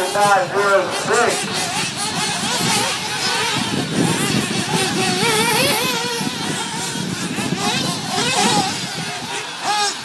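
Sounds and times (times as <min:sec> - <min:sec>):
small high-pitched engines racing: 0:00.0 - 0:10.0.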